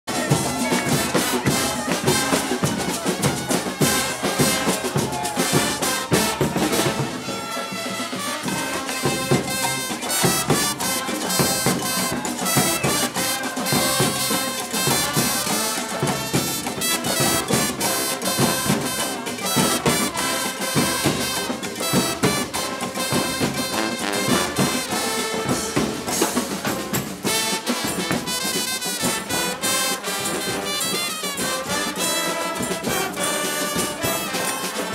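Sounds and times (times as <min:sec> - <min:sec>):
brass street band: 0:00.0 - 0:34.9
drums beating: 0:00.1 - 0:34.9.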